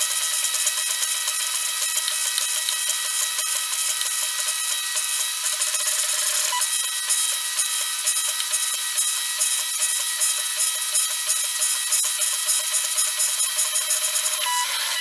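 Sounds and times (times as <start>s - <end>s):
printer whirring and rasping: 0.0s - 15.0s.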